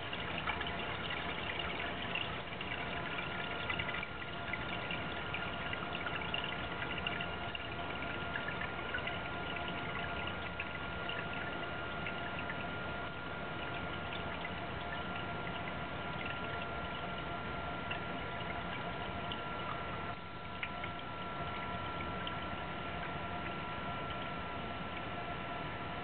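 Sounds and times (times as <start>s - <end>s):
sump pump motor hum: 0.0s - 26.0s
water pouring and trickling: 0.0s - 26.0s.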